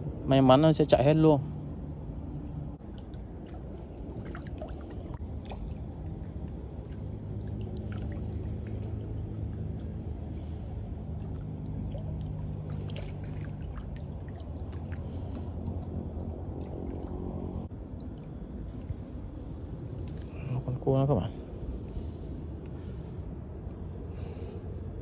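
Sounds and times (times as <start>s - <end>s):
crickets trilling: 0.0s - 25.0s
low steady hum: 0.0s - 25.0s
water sloshing and trickling: 0.8s - 25.0s.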